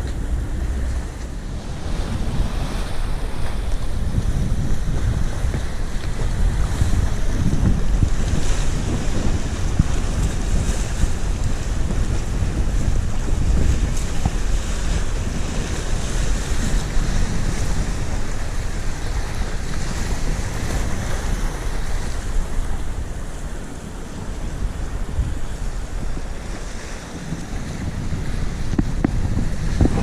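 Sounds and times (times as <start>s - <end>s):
waves against rocky sea wall: 0.0s - 30.0s
wind buffeting microphone: 0.0s - 30.0s.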